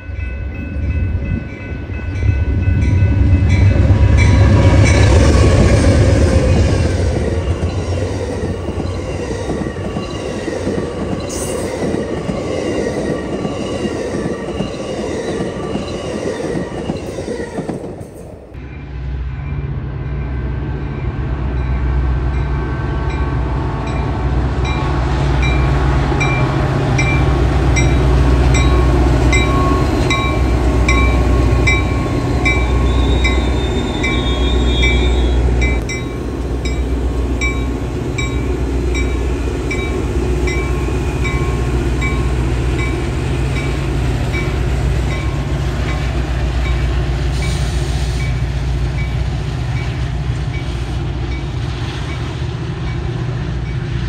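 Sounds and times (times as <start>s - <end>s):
train engine and wheel rumble: 0.0s - 54.0s.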